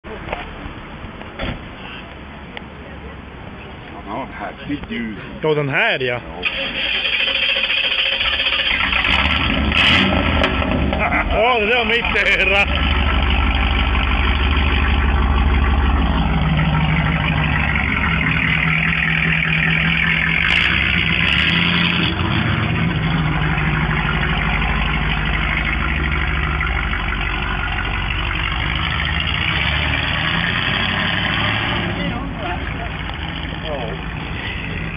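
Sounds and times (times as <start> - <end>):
car engine idling: 6.2 - 34.9.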